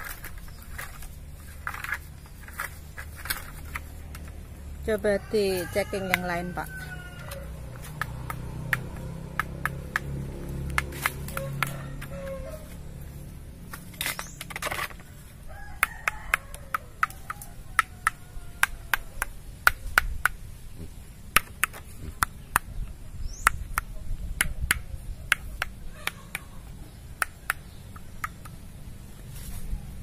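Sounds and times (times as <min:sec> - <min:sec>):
fingers flicking coconuts: 0:00.0 - 0:30.0.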